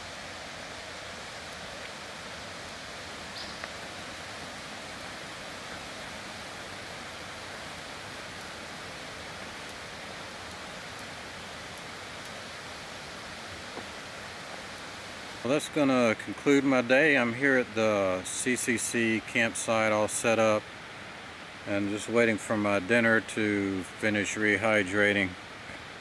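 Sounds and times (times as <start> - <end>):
creek flowing over rocks: 0.0 - 26.0.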